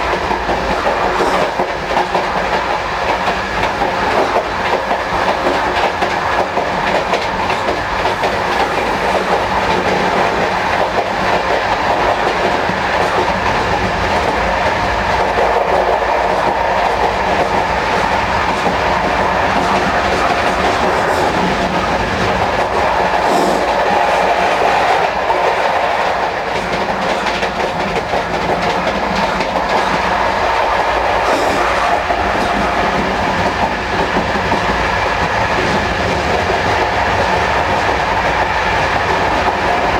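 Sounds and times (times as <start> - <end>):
train coach rumbling: 0.0 - 39.9.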